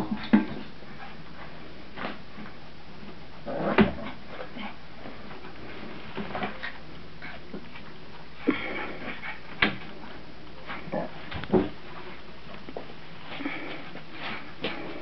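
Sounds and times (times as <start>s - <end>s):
puppies playing and tussling: 0.0s - 15.0s.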